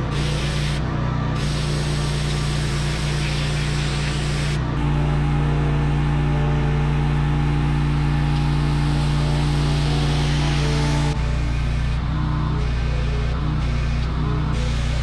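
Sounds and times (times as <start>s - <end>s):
pressure washer engine running: 0.0s - 15.0s.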